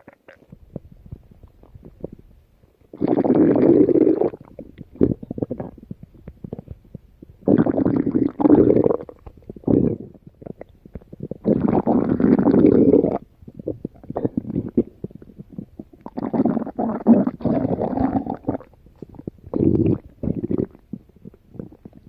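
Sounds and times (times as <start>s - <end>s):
crackling stomach gurgles: 0.0s - 22.0s
stomach growling: 0.0s - 22.0s.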